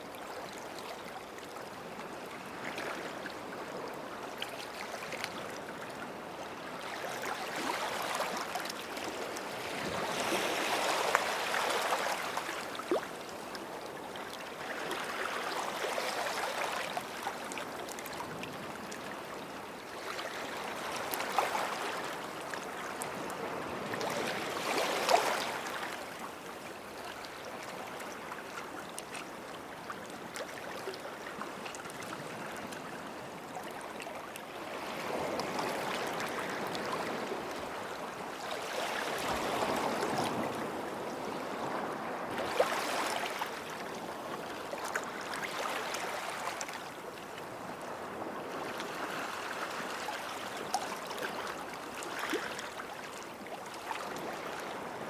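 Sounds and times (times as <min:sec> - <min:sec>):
small waves washing ashore: 0:02.3 - 0:55.0.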